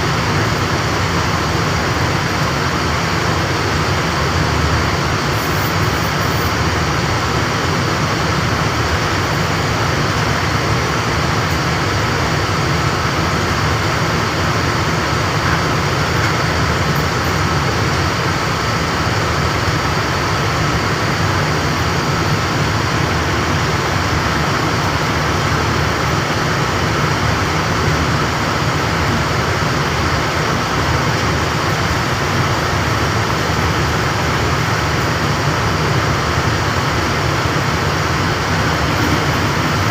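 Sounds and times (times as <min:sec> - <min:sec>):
machinery mechanical drone: 0:00.0 - 0:39.9.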